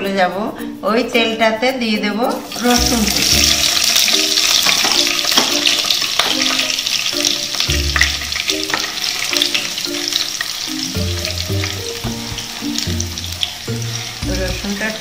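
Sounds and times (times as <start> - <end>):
soft background music: 0.0 - 15.0
garlic sizzling in hot oil: 2.3 - 15.0.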